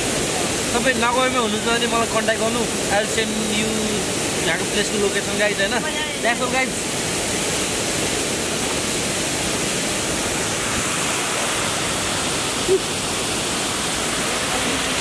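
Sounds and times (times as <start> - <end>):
waterfall pouring: 0.0 - 15.0.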